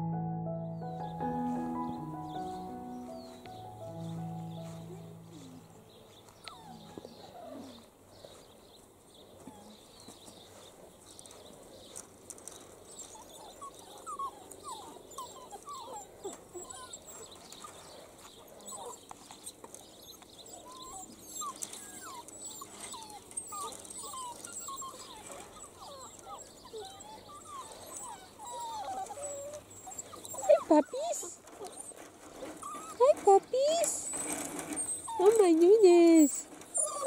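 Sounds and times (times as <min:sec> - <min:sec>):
puppies yipping and whining: 0:01.3 - 0:08.4, 0:11.9 - 0:37.0.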